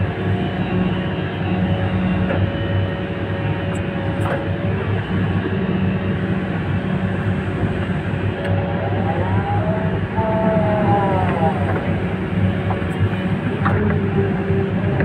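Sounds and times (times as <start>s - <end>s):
excavator engine and hydraulics: 0.0s - 15.0s.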